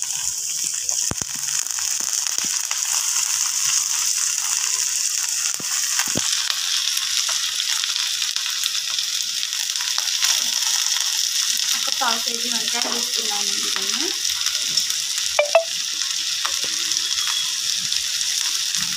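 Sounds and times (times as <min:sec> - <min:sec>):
oil sizzling in frying pan: 0:00.0 - 0:18.9.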